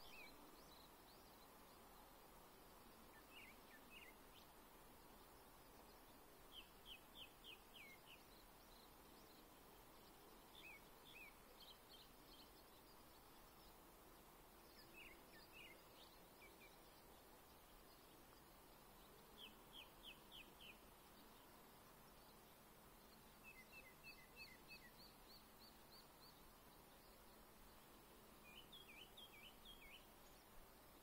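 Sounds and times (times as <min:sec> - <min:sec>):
songbird singing: 0:00.0 - 0:31.0
steady background hiss: 0:00.0 - 0:31.0.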